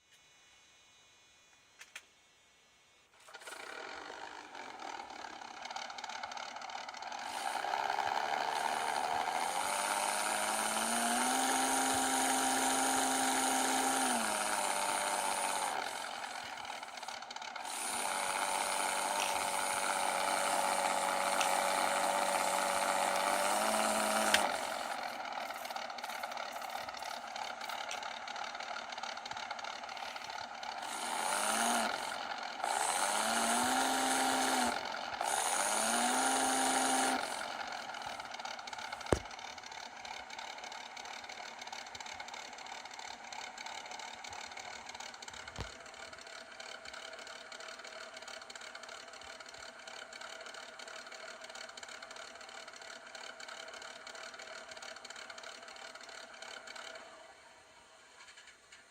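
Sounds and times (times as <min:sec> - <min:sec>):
diesel engine idling and revving: 0:03.3 - 0:58.9.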